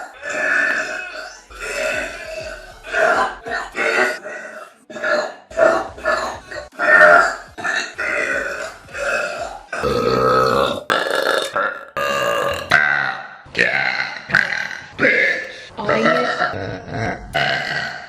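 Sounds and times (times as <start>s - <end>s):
girls burping: 0.0s - 13.2s, 13.8s - 18.0s.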